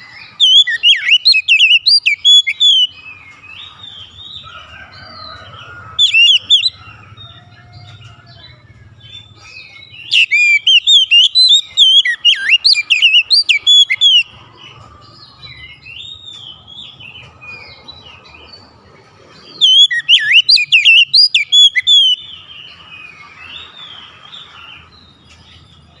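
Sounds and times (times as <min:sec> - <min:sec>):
magpie-robin singing: 0:00.0 - 0:26.0.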